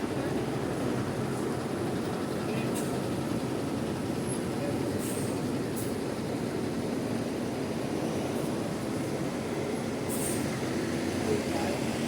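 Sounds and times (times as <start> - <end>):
bus engines idling: 0.0 - 12.0.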